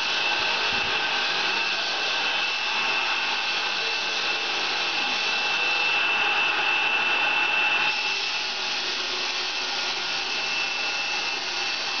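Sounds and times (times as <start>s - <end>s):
workshop machine noise: 0.0s - 12.0s.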